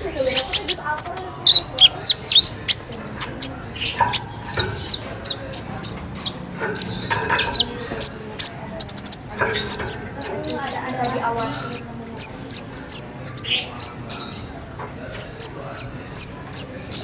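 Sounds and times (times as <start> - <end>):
bird singing high chirps: 0.0 - 14.6, 15.4 - 17.0.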